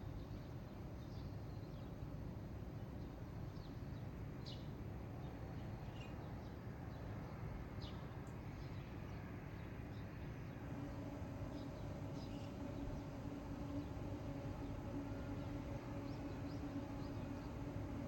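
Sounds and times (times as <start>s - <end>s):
low outdoor background rumble: 0.0s - 18.0s
small birds chirping: 3.0s - 18.0s.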